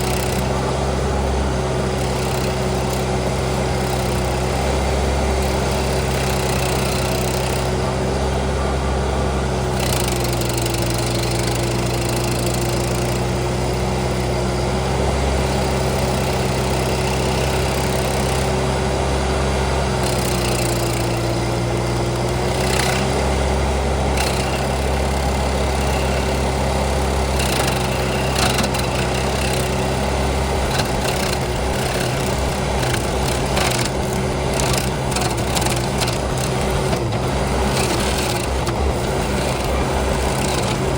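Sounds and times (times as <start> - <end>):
skid steer engine running: 0.0 - 40.9
stump grinder grinding wood: 0.0 - 40.9.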